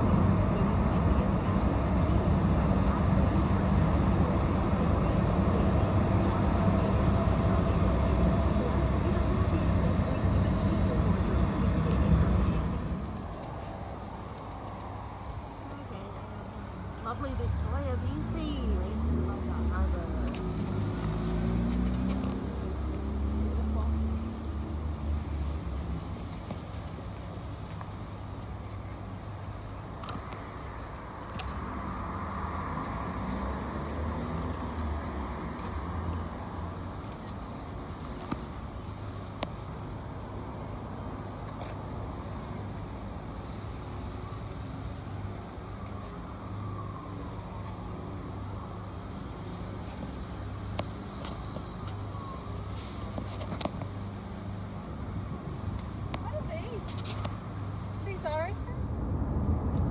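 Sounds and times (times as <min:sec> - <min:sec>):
road and engine noise inside car: 0:00.0 - 0:59.9.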